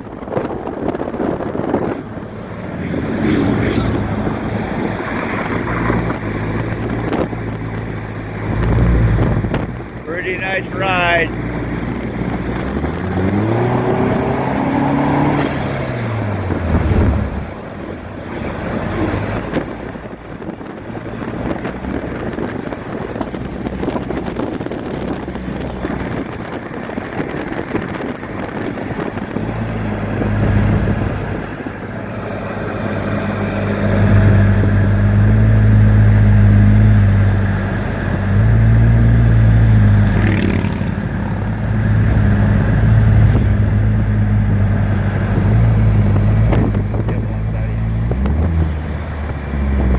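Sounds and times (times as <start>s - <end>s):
wind and road noise: 0.0s - 49.9s
engine revving and droning: 1.7s - 20.2s, 21.1s - 49.9s.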